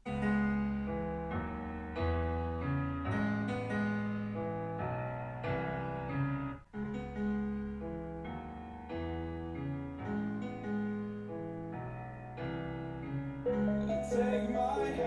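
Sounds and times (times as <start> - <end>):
piano-led pop music from speaker: 0.0 - 15.0.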